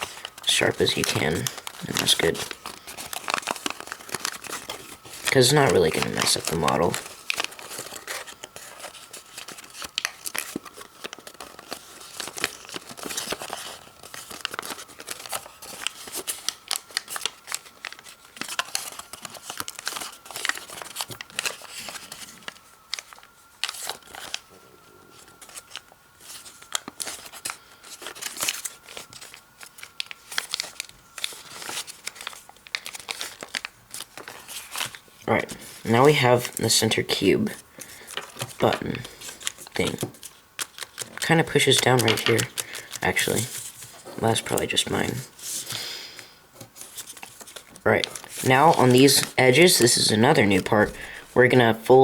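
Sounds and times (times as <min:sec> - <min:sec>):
paper crinkling and crackling: 0:00.0 - 0:52.0.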